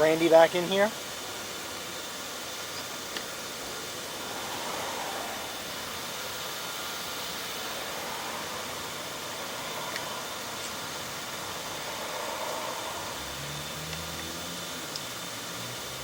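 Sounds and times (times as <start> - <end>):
airy hiss: 0.0 - 16.0.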